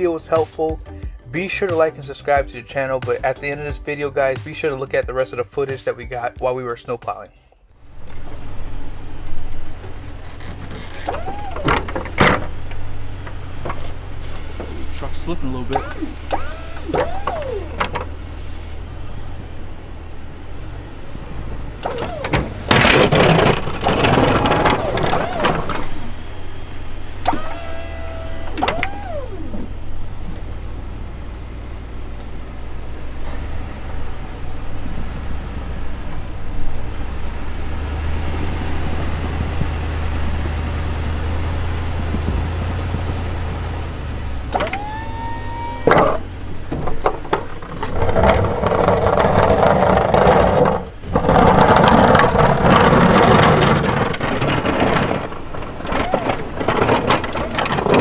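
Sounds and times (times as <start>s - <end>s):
truck engine rumbling: 0.0s - 58.0s
hydraulic pump whine: 7.8s - 58.0s
plow blade grinding through snow: 7.8s - 58.0s.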